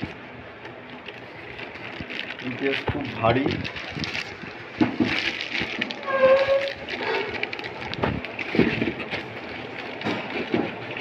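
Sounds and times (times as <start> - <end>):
plastic and cardboard crinkling: 0.0 - 11.0.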